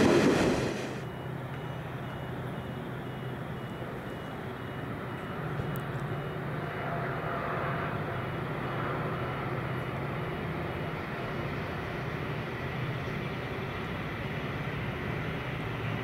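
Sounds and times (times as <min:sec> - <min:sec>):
diesel train engine droning: 0:00.0 - 0:16.0.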